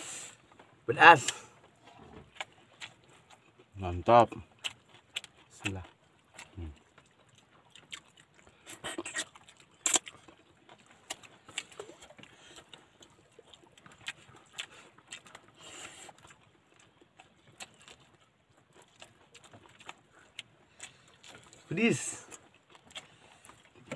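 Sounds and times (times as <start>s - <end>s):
wet chewing and lip smacks: 0.2s - 23.9s.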